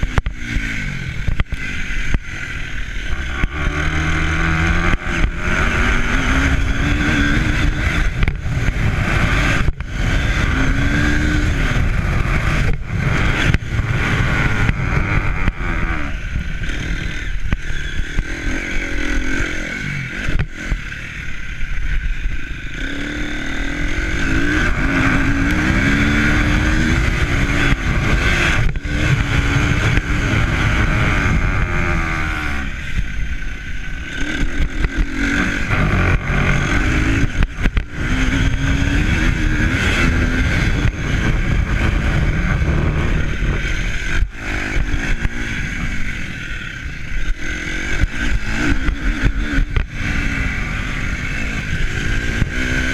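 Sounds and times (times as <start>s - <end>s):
vehicle engine revving: 0.0s - 52.9s
wind rumble on microphone: 0.0s - 52.9s.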